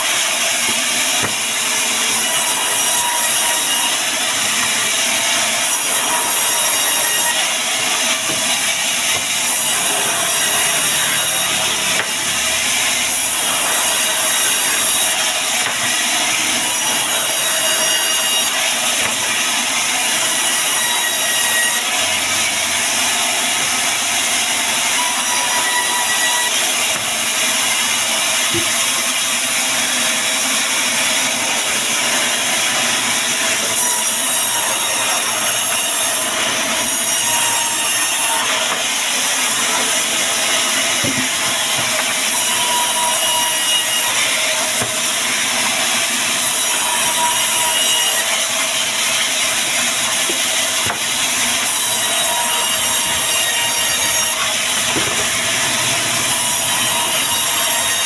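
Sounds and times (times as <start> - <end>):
bandsaw cutting wood: 0.0 - 58.0.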